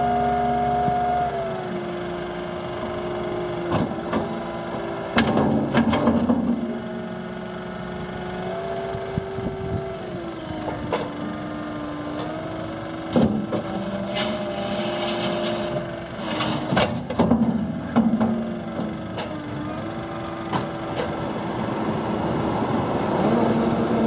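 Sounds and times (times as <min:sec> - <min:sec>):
diesel engine and hydraulics: 0:00.0 - 0:24.0.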